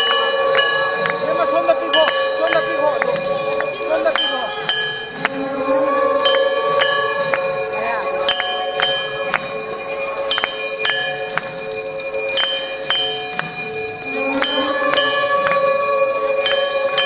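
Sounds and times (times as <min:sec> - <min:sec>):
temple bells ringing: 0:00.0 - 0:17.0.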